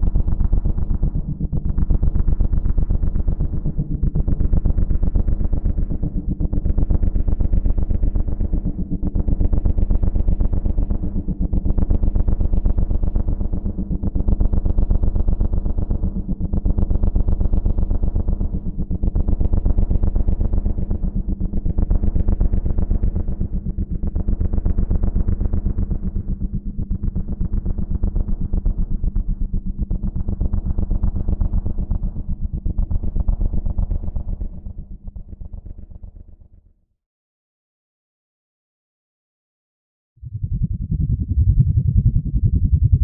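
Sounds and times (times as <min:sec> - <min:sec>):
low synthesized drone: 0:00.0 - 0:36.1, 0:40.2 - 0:43.0.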